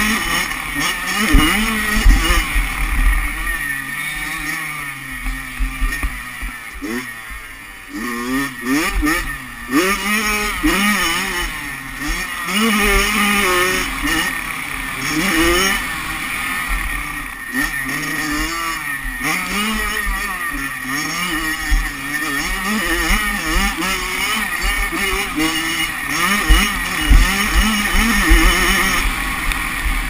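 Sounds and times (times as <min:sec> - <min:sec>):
motocross bike engine revving: 0:00.0 - 0:30.0.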